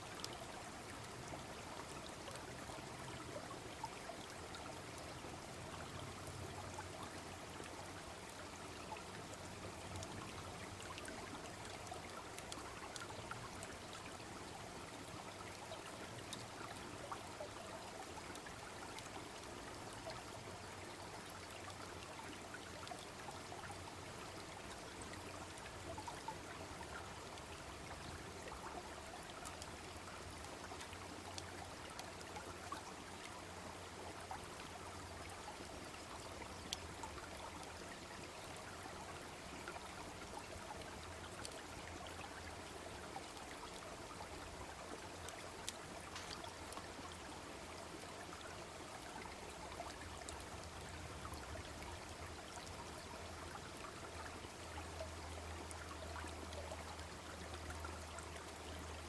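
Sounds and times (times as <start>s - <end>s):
babbling brook: 0.0s - 59.0s.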